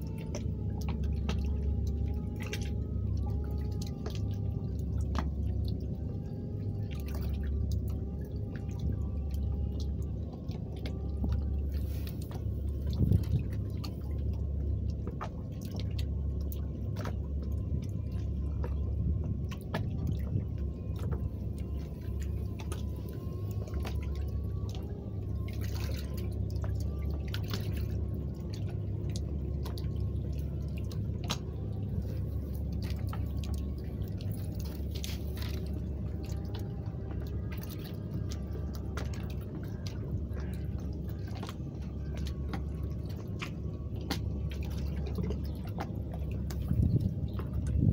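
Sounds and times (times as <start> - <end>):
sea water lapping and dripping: 0.0 - 47.9
small splashes: 0.0 - 47.9
steady low rumble: 0.0 - 47.9.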